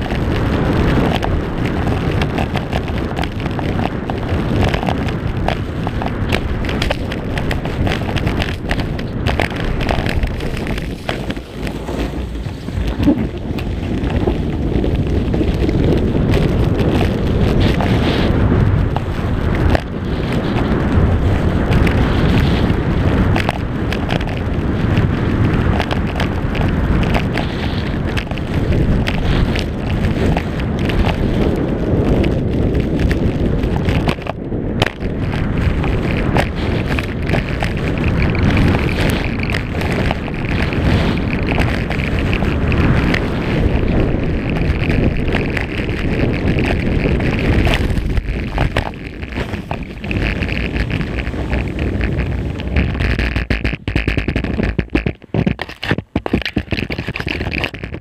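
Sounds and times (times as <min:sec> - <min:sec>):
skis scraping over snow: 0:00.0 - 0:58.0
wind rushing over microphone: 0:00.0 - 0:58.0.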